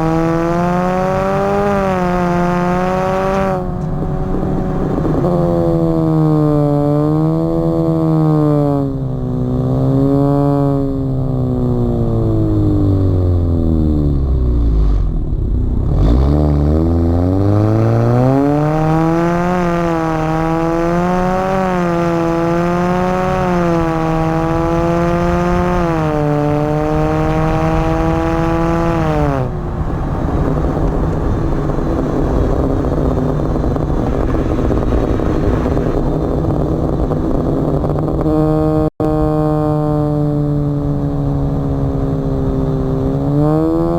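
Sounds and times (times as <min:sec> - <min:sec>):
car exhaust engine note: 0:00.0 - 0:43.9.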